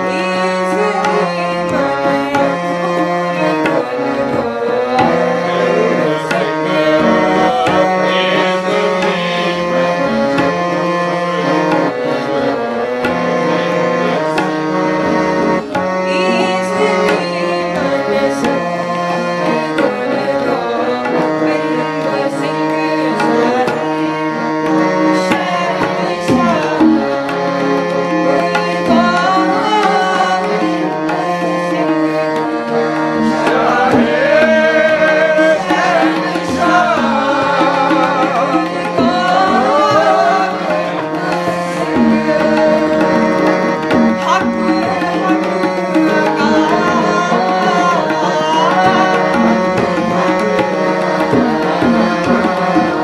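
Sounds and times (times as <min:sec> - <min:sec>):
woman singing a hymn: 0:00.0 - 0:09.6, 0:16.0 - 0:43.2, 0:44.2 - 0:50.2
harmonium notes: 0:00.0 - 0:53.0
tabla rhythm: 0:00.0 - 0:53.0.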